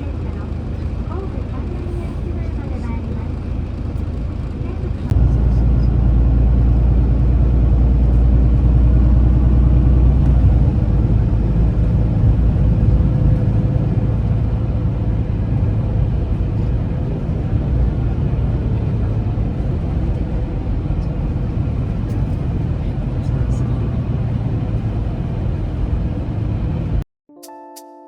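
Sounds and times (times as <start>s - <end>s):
engine low rumble: 0.0s - 27.0s.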